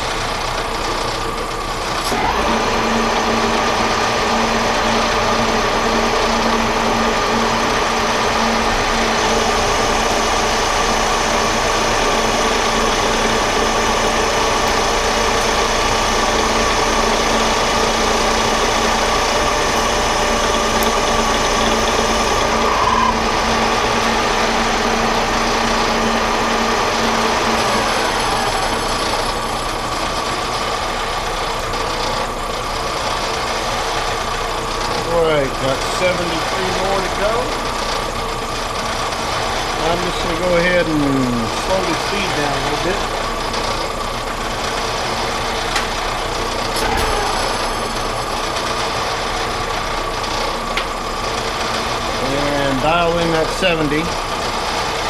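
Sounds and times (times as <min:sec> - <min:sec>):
lathe cutting whine: 0:00.0 - 0:55.0
metal lathe humming: 0:00.0 - 0:55.0.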